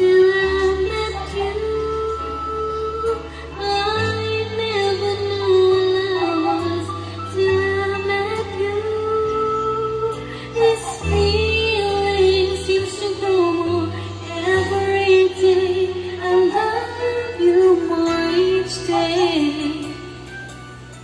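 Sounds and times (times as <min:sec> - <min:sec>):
woman singing: 0:00.0 - 0:20.6.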